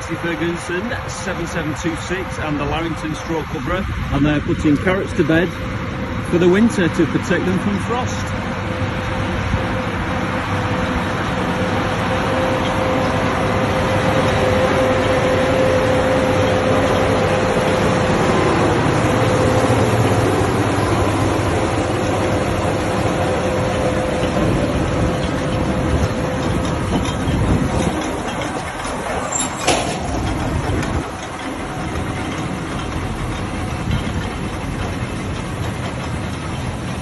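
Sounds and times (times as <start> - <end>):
steady machine whine: 0.0 - 37.0
tractor engine running: 0.0 - 37.0.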